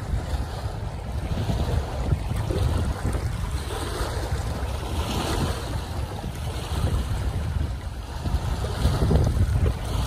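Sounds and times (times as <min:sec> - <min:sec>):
water washing along shore: 0:00.0 - 0:10.0
wind buffeting microphone: 0:00.0 - 0:10.0.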